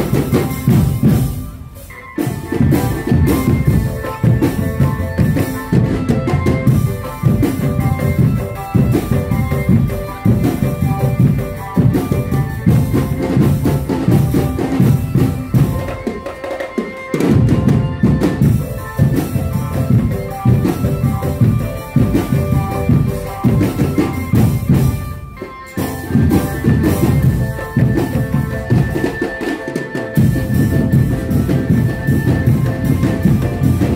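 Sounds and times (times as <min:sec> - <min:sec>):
drum band music: 0:00.0 - 0:33.9.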